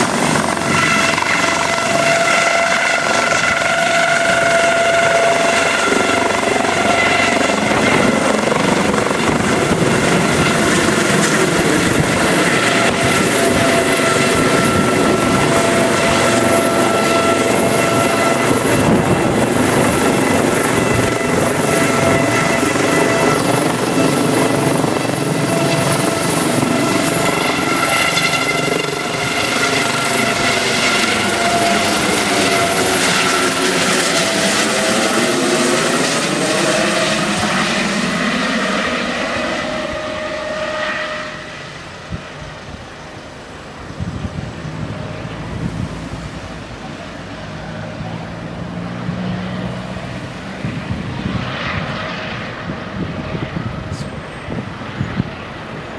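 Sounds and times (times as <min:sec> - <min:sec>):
helicopter rotor noise: 0:00.0 - 0:55.9
helicopter turbine whine: 0:00.0 - 0:55.9.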